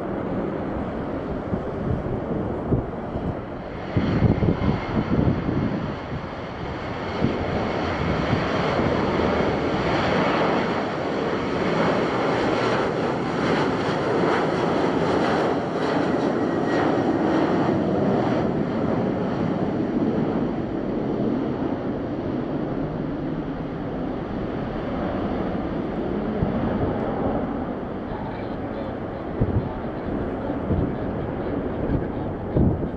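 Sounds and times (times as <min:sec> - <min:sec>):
jet engines at takeoff power: 0:00.0 - 0:32.9
wind buffeting microphone: 0:00.0 - 0:32.9.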